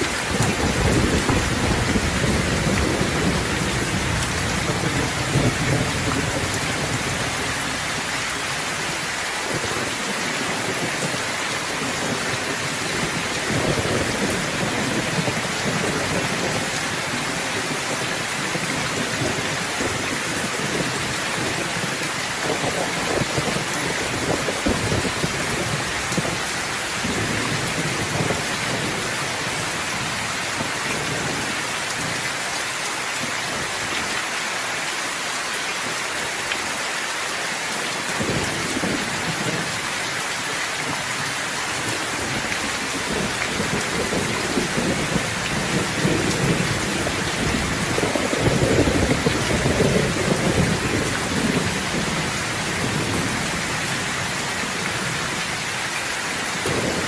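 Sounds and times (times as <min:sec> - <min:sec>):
thunder rumbling: 0:00.0 - 0:32.2, 0:38.1 - 0:39.8, 0:40.9 - 0:55.6, 0:56.6 - 0:57.0
rain pouring: 0:00.0 - 0:57.0.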